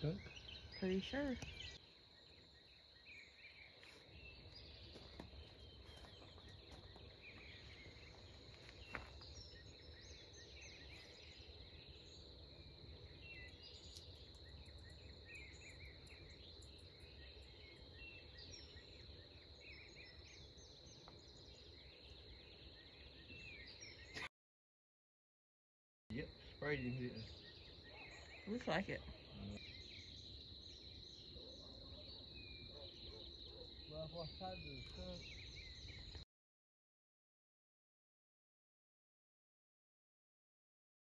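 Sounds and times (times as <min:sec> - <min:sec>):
crickets droning: 0:00.0 - 0:24.1, 0:26.1 - 0:36.2.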